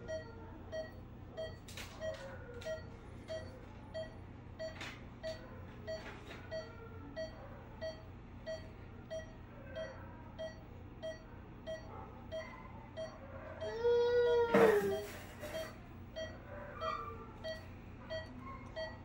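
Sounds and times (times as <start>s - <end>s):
anesthesia monitor beeping: 0.0s - 19.0s.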